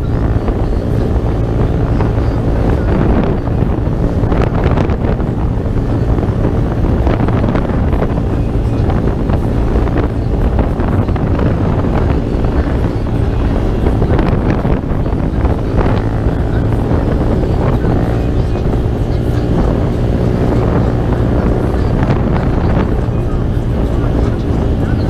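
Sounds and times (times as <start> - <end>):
motorcycle engine running: 0.0 - 25.0
wind rushing over microphone: 0.0 - 25.0.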